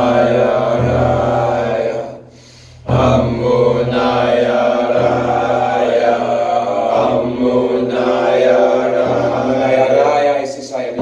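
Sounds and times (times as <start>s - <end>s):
steady low drone: 0.0s - 10.3s
person chanting sustained vowels: 0.0s - 11.0s.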